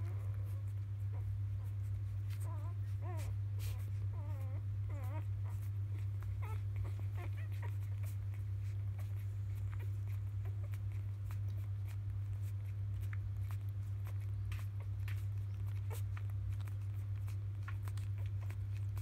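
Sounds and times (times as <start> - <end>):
puppies squeaking: 0.0 - 19.0
steady low hum: 0.0 - 19.0.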